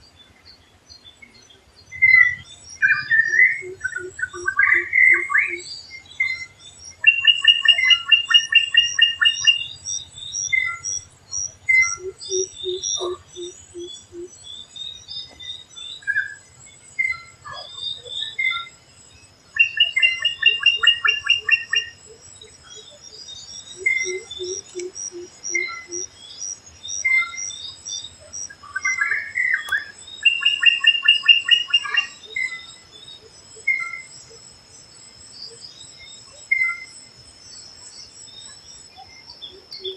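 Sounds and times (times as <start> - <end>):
low evenly spaced bird notes: 0.0 - 34.1.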